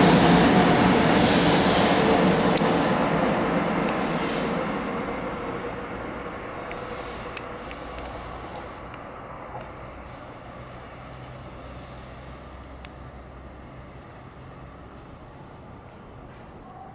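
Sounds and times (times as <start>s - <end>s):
high-speed train running noise: 0.0s - 16.9s.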